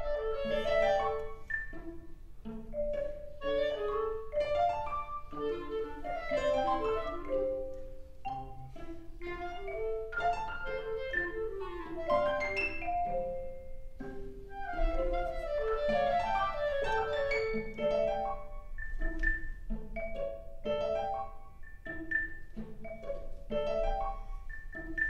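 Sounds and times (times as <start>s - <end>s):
chamber ensemble playing: 0.0s - 25.0s
mallet percussion notes: 0.0s - 25.0s.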